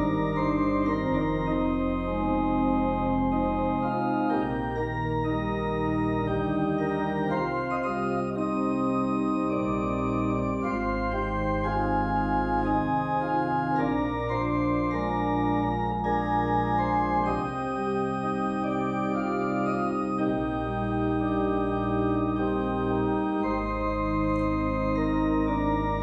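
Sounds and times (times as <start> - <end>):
organ playing chords: 0.0 - 26.0.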